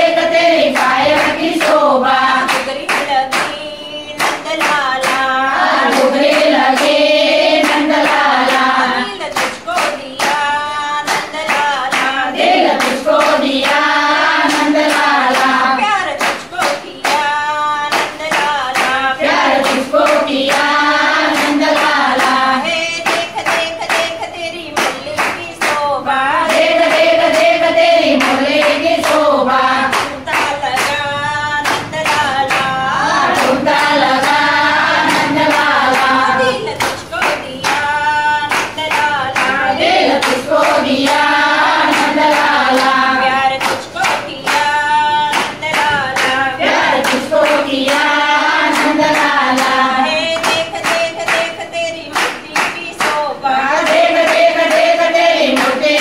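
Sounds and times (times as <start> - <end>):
hand-clapping: 0.0 - 56.0
women singing together: 0.0 - 56.0.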